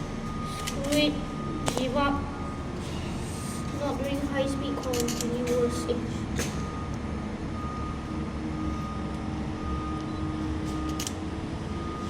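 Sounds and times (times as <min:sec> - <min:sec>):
heavy machinery engine rumbling: 0:00.0 - 0:12.0.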